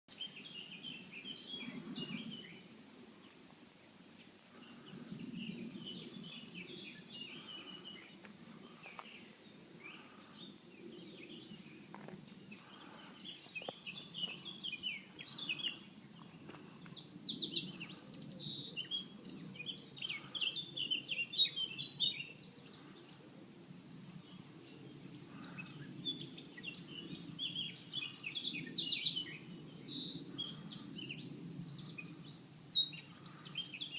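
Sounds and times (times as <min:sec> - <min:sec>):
songbirds singing: 0:00.1 - 0:33.9
fast high bird song: 0:04.2 - 0:33.9.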